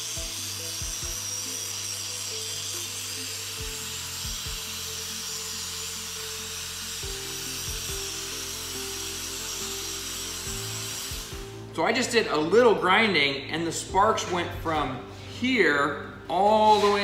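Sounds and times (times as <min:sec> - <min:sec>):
angle grinder grinding steel: 0:00.0 - 0:17.0
background music: 0:00.0 - 0:17.0.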